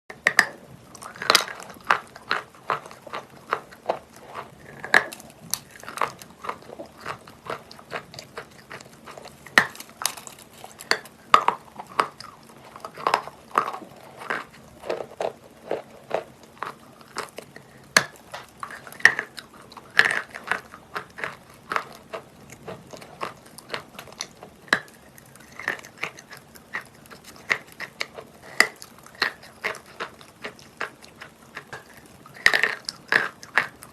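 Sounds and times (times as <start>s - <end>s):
faint hum: 0.1s - 33.9s
chalk crunching when chewed: 0.3s - 33.9s.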